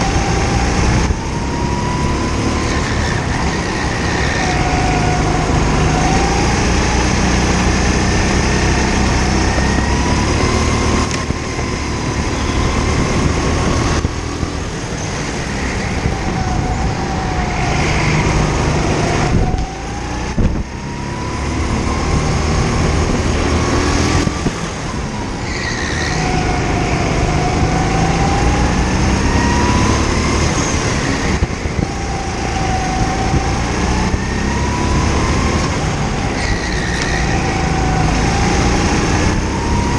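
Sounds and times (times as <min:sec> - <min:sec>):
go-kart engine under hard throttle: 0:00.0 - 0:39.9
other kart engines: 0:00.0 - 0:39.9.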